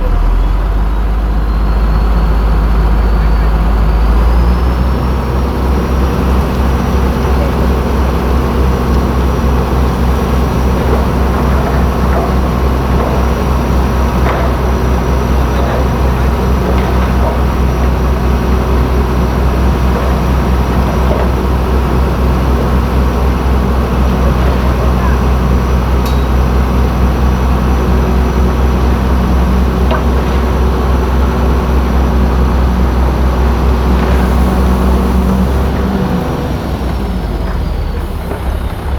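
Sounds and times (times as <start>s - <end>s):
heavy diesel machinery engine drone: 0.0s - 38.9s.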